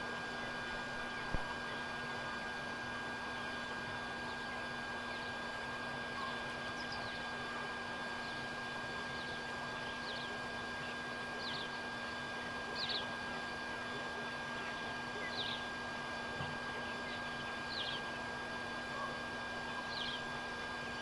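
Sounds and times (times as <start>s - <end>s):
constant thin whine: 0.0s - 21.0s.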